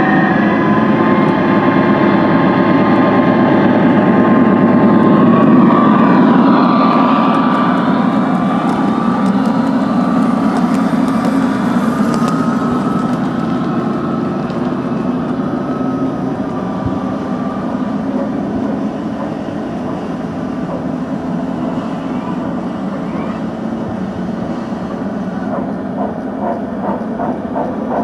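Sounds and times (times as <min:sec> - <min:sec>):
model train wheels rumbling on rails: 0:00.0 - 0:28.0.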